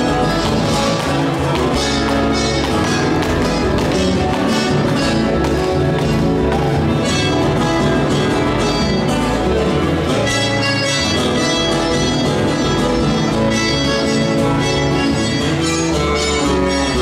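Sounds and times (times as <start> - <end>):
accordion: 0.0 - 17.0
acoustic guitars strummed: 0.0 - 17.0.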